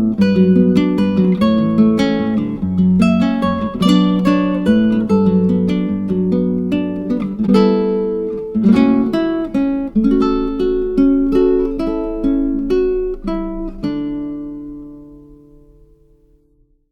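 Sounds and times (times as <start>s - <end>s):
acoustic guitar music: 0.0s - 16.8s.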